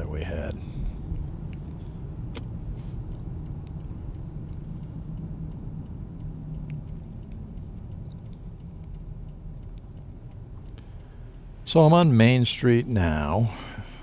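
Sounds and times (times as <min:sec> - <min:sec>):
faint light ticks: 0:00.0 - 0:11.8
car engine and tyres rumbling: 0:00.0 - 0:14.0.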